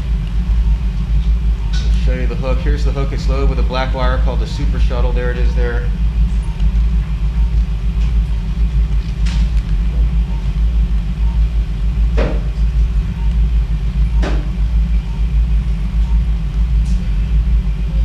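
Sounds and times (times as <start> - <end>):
low rumble of hospital equipment: 0.0 - 18.0.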